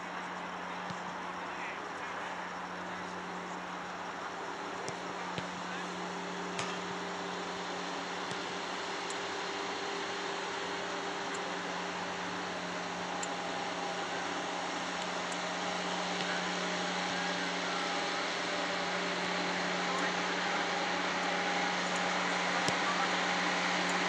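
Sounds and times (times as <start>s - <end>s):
constant low hum: 0.0s - 24.0s
outdoor hiss: 0.0s - 24.0s.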